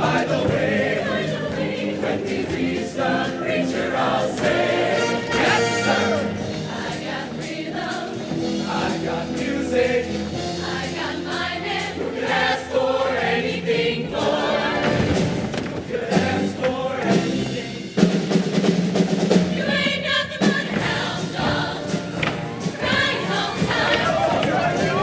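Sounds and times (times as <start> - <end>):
choir singing: 0.0 - 18.0, 19.4 - 25.0.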